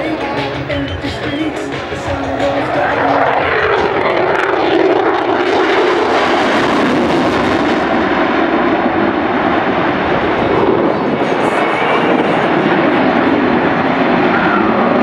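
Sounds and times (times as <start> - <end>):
jet fly-by roar: 0.4 - 15.0.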